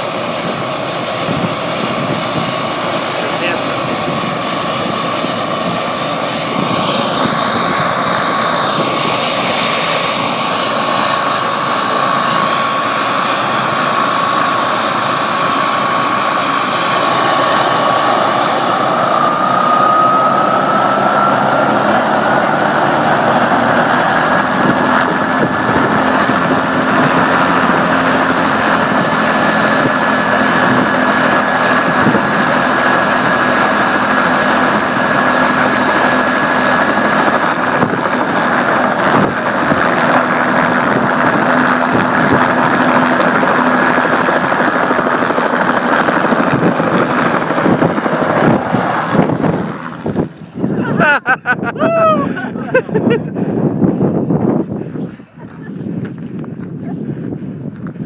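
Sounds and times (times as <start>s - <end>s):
helicopter rotor wash: 0.0s - 51.1s
helicopter turbine whine: 0.0s - 58.0s.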